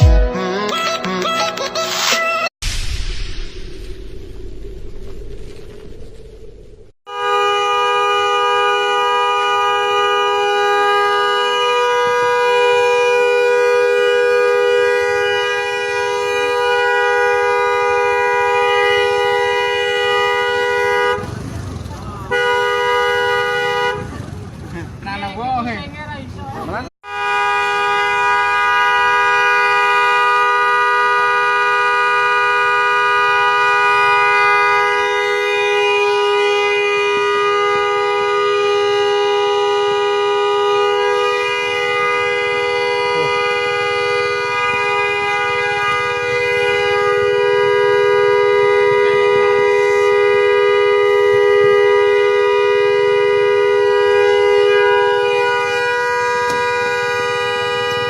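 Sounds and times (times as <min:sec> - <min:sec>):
truck horn two-note tone: 0:00.0 - 0:01.2, 0:07.1 - 0:21.4, 0:22.3 - 0:24.1, 0:27.0 - 0:58.0.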